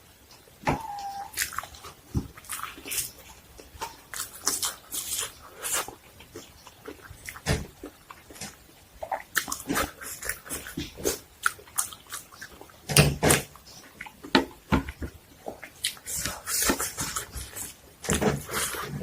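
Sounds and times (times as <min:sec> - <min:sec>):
wet chewing and mouth smacking: 0:00.3 - 0:17.8.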